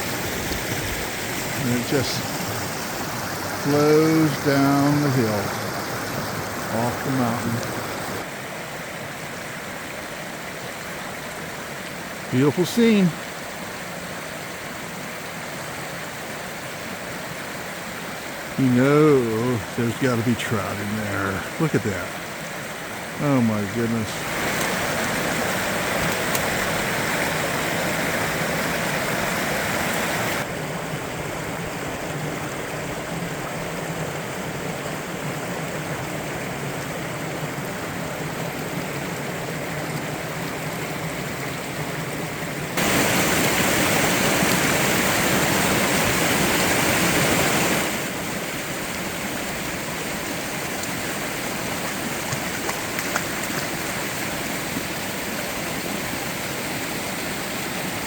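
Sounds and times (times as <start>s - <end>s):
mountain brook rushing and splashing: 0.0s - 58.0s.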